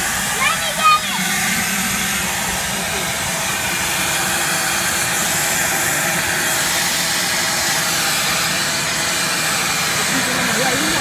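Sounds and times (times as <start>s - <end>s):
shop vacuum running: 0.0s - 11.0s.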